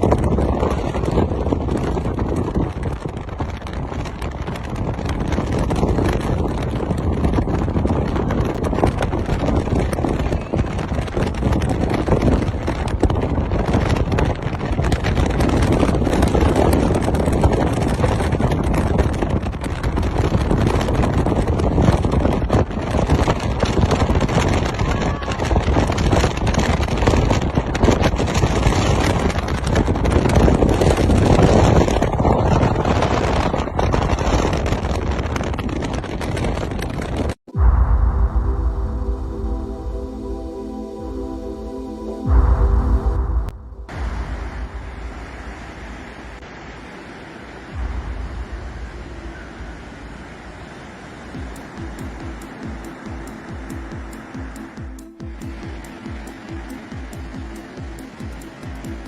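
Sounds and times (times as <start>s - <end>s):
storm wind buffeting microphone: 0.0s - 59.0s.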